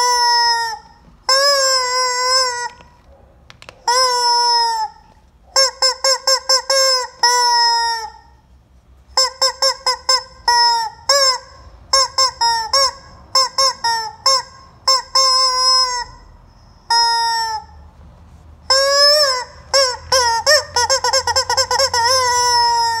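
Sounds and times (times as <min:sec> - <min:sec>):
rubber chicken toy squawking: 0:00.0 - 0:08.4, 0:09.1 - 0:17.8, 0:18.6 - 0:23.0.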